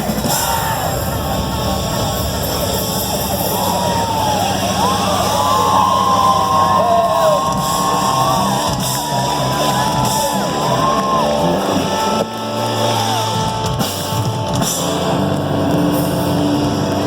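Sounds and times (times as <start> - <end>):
bending guitar line: 0.0 - 17.0
rock band playing live: 0.0 - 17.0.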